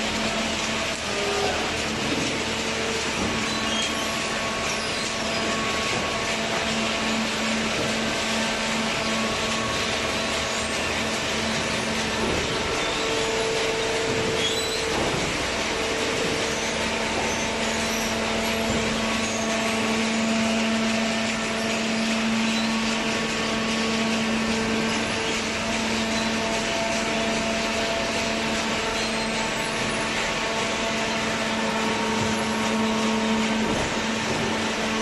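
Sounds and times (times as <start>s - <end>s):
machinery motor hum: 0.0s - 35.0s.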